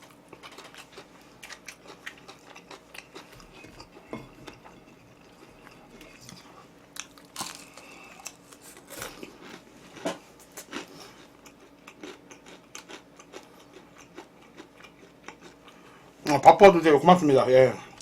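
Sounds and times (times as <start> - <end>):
crunchy chewing: 0.0 - 15.9.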